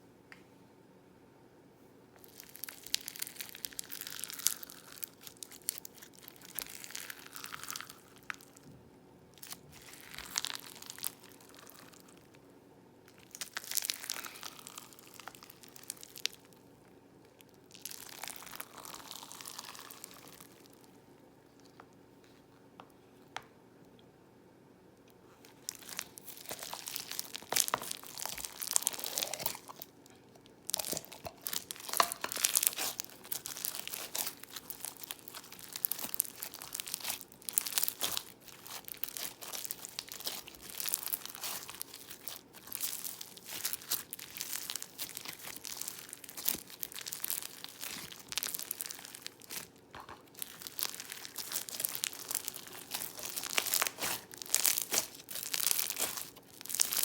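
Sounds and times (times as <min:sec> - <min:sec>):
slime crackling and popping: 0:02.2 - 0:08.7, 0:09.4 - 0:12.4, 0:13.1 - 0:21.0, 0:25.4 - 0:57.0.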